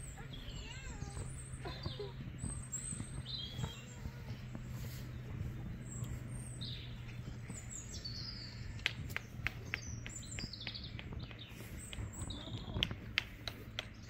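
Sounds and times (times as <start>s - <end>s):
low steady hum: 0.0s - 14.0s
songbirds singing: 0.0s - 14.0s.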